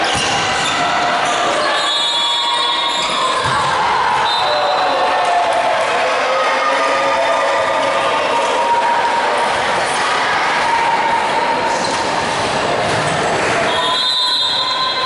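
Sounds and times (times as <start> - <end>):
echoing hall noise: 0.0 - 15.0.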